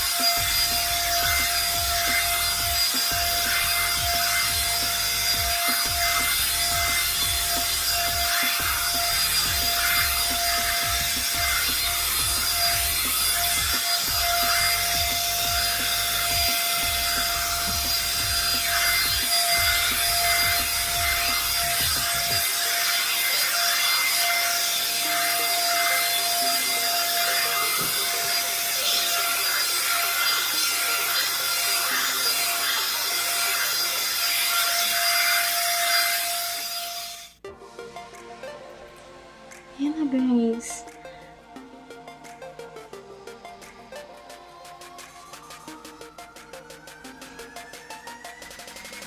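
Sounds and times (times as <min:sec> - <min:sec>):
hair dryer blowing with motor whine: 0:00.0 - 0:37.4, 0:42.2 - 0:49.0.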